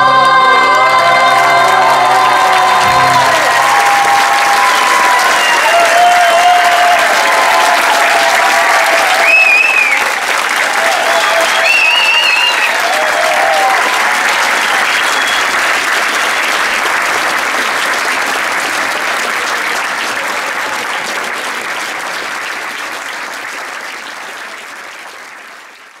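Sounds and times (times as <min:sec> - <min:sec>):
audience cheering: 0:00.0 - 0:24.6
audience applauding: 0:00.0 - 0:26.0.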